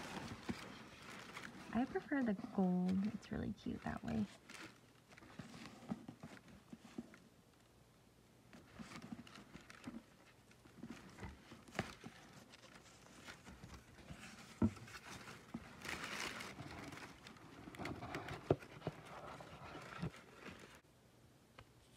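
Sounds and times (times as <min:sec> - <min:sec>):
ribbon and box rustling: 0:00.0 - 0:07.3, 0:08.5 - 0:20.8.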